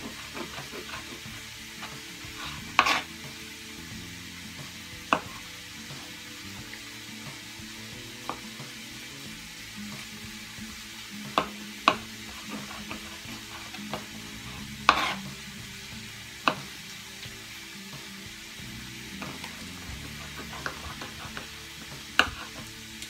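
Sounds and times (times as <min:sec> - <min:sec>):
frying pan sizzling: 0:00.0 - 0:23.0.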